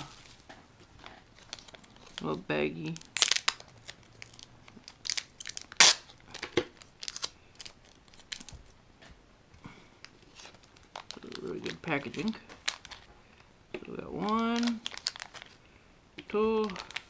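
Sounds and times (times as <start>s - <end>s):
plastic bag crinkling: 0.0s - 8.8s, 10.0s - 15.6s, 16.5s - 17.0s.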